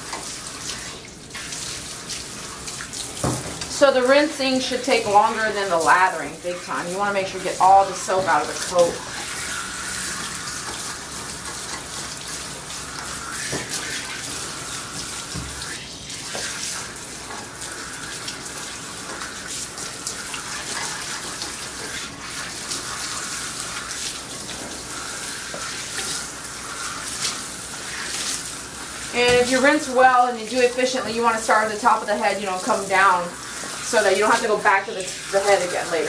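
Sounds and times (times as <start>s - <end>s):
water splashing into bathtub: 0.0s - 36.0s
water spraying from hose nozzle: 0.0s - 36.0s.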